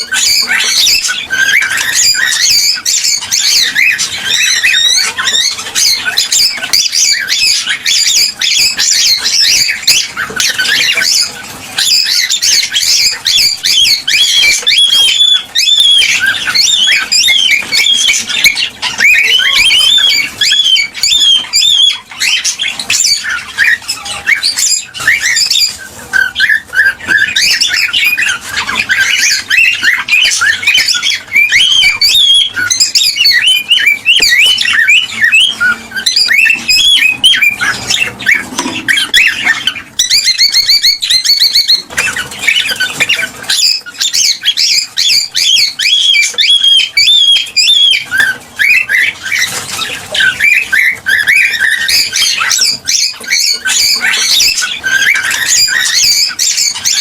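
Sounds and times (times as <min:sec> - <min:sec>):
cockatiels chattering and whistling: 0:00.0 - 0:57.0.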